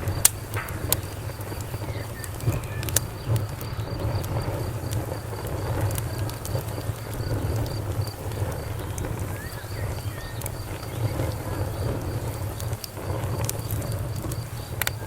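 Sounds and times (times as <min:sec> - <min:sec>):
campfire crackling and popping: 0:00.0 - 0:15.0
cricket chirping: 0:00.0 - 0:15.0.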